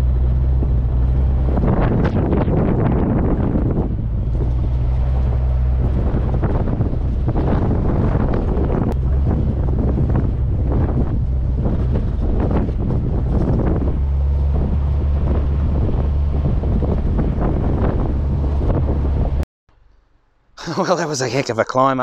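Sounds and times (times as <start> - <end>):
heavy vehicle rumble: 0.0 - 19.4
wind buffeting microphone: 0.0 - 19.4.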